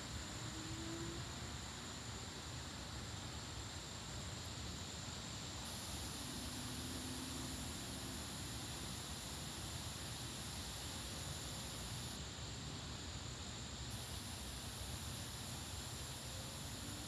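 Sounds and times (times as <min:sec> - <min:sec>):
high insect drone: 0:00.0 - 0:17.0
wind through trees: 0:00.0 - 0:17.0.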